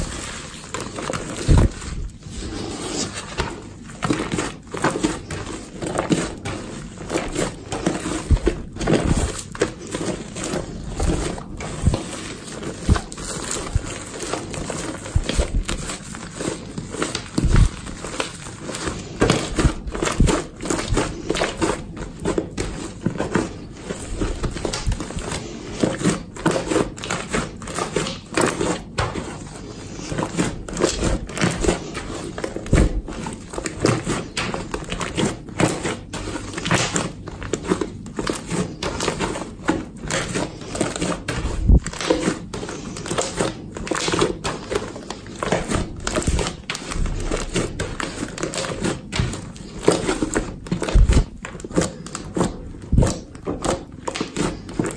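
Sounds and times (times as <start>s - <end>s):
slime squishing: 0.0s - 54.9s.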